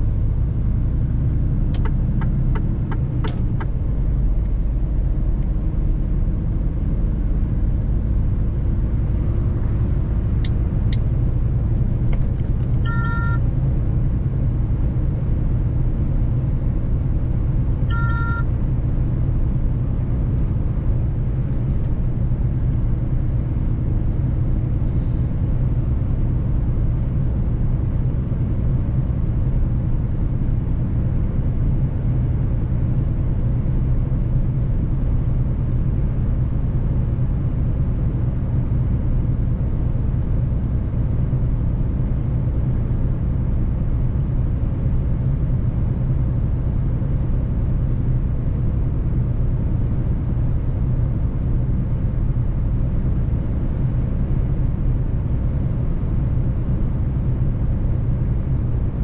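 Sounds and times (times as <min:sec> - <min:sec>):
road noise: 0:00.0 - 0:59.0
truck engine droning: 0:00.0 - 0:59.0.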